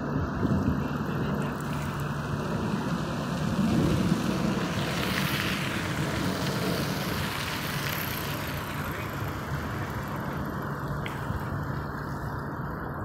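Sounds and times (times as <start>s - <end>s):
distant jet rumble: 0.0s - 13.0s.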